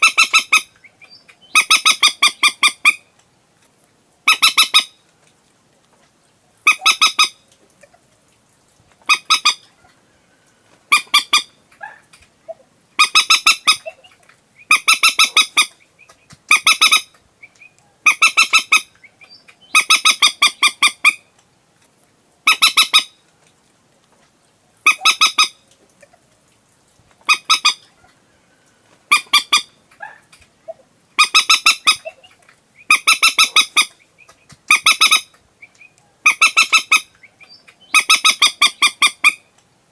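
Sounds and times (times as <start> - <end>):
moorhen harsh clucking calls: 0.0 - 3.2, 4.2 - 5.1, 6.6 - 8.1, 9.0 - 21.4, 22.4 - 23.2, 24.8 - 26.3, 27.2 - 39.6.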